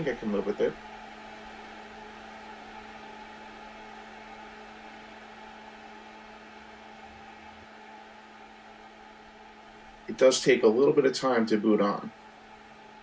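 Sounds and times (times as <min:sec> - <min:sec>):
power supply fan humming: 0:00.0 - 0:13.0.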